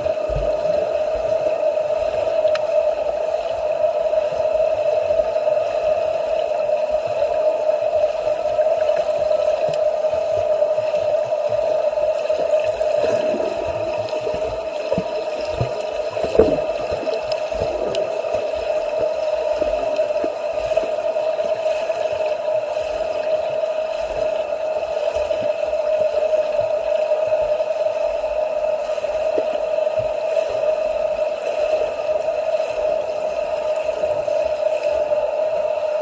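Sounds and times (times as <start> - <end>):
steady hum: 0.0 - 36.0
water splashing and gurgling: 0.0 - 36.0.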